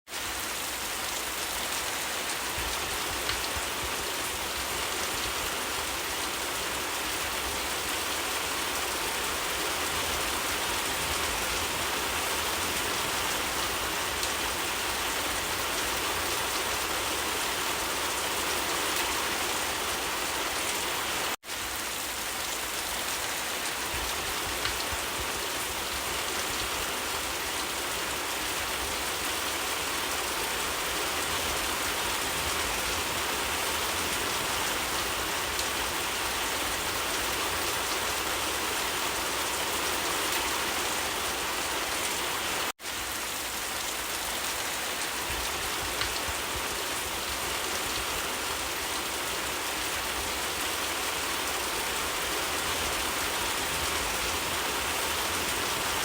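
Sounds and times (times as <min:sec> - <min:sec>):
steady rain hiss: 0:00.1 - 0:56.0.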